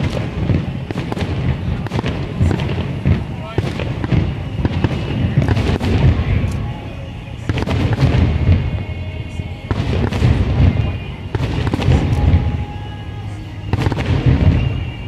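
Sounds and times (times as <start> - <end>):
fireworks bangs and crackling: 0.0 - 15.0
low rumble: 0.0 - 15.0
music: 0.0 - 15.0.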